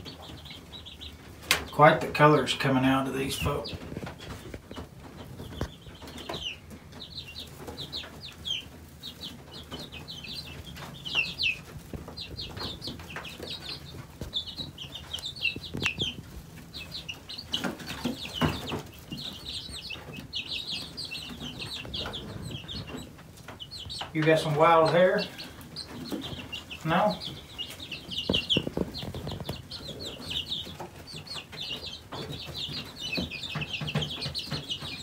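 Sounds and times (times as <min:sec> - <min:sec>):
chicks peeping: 0:00.0 - 0:35.0
knocks and rustles: 0:03.4 - 0:35.0.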